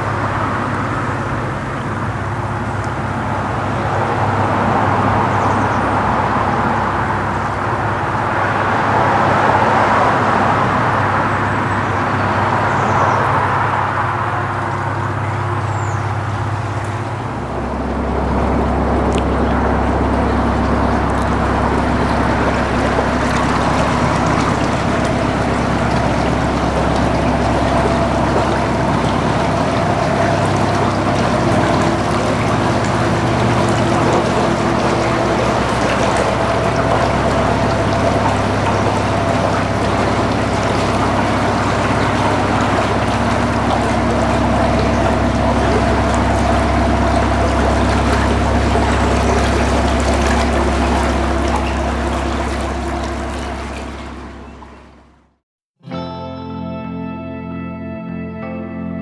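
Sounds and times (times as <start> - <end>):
boat diesel engine running: 0.0 - 55.4
water washing along hull: 0.0 - 55.4.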